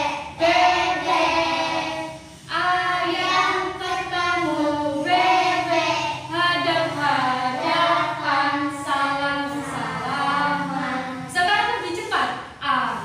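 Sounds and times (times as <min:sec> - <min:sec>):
woman and children singing: 0:00.0 - 0:13.0.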